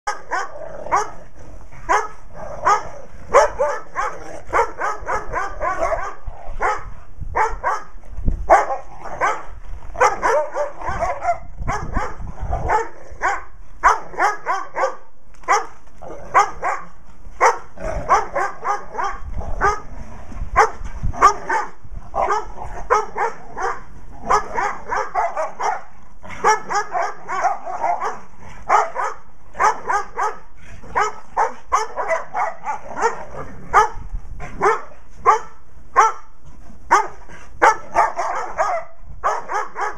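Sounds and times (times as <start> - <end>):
dogs barking excitedly: 0.0 - 39.9.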